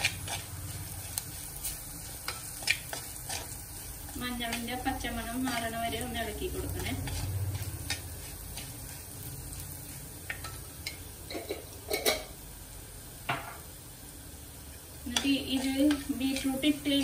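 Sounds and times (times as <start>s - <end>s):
spoon stirring and scraping pot: 0.0s - 12.3s, 15.0s - 17.0s
faint frying sizzle: 0.0s - 17.0s.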